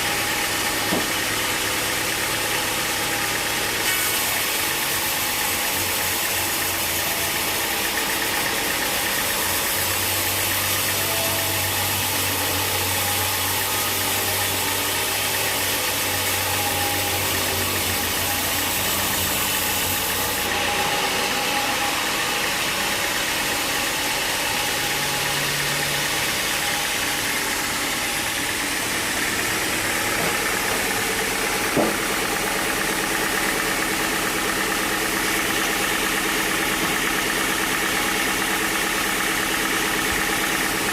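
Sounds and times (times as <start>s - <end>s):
sawmill machinery drone: 0.0s - 40.9s.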